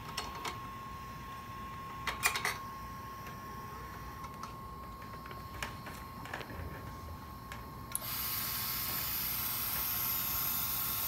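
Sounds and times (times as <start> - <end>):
steady high whine: 0.0 - 11.0.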